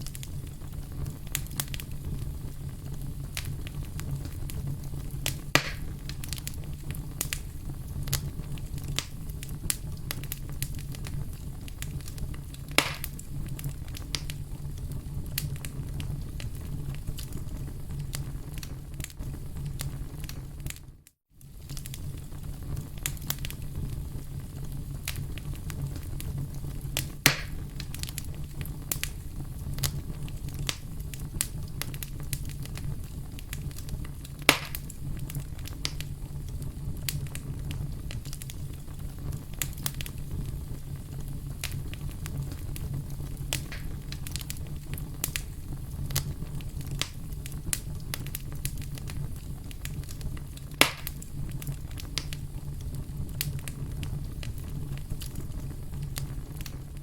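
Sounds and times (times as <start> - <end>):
fire pops: 0.0 - 57.0
fireplace fire crackling: 0.0 - 57.0.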